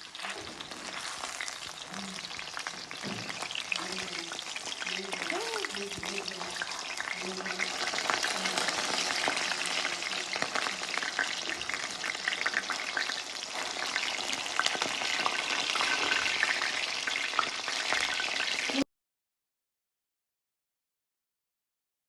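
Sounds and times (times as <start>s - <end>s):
food sizzling in a pan: 0.0s - 18.8s.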